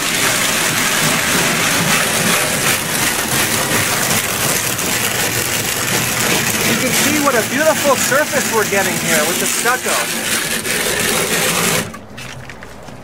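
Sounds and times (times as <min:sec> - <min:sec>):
trowel scraping on stucco: 0:00.0 - 0:12.9.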